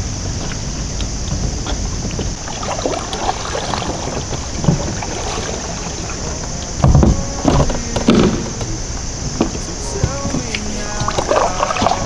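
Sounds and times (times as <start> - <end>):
steady high hiss: 0.0 - 12.0
wind rumbling on microphone: 0.0 - 12.0.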